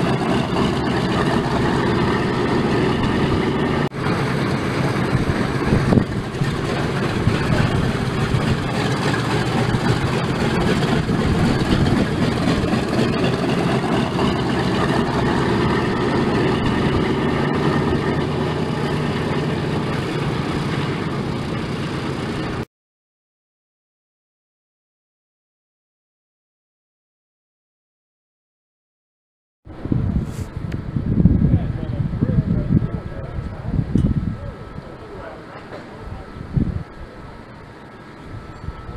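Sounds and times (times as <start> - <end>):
radial aircraft engines droning: 0.0 - 22.7, 29.7 - 38.9.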